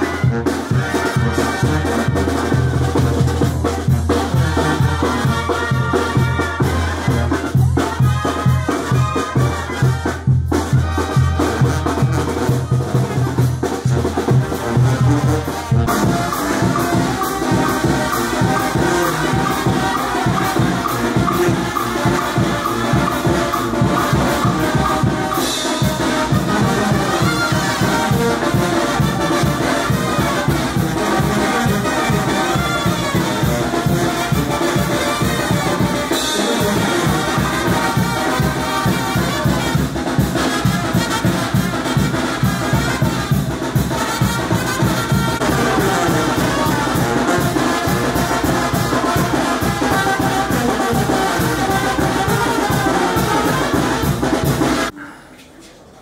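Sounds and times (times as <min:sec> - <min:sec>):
driving drum beat: 0:00.0 - 0:54.9
trumpets and trombones: 0:00.0 - 0:55.0.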